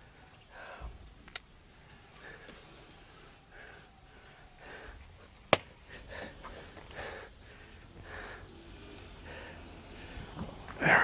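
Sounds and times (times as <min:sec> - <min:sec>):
breathing: 0:00.5 - 0:01.1, 0:01.8 - 0:05.3, 0:05.9 - 0:11.0.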